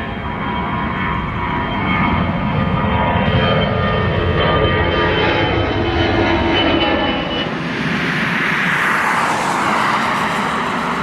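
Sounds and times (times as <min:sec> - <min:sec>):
jet engine whine and roar: 0:00.0 - 0:11.0.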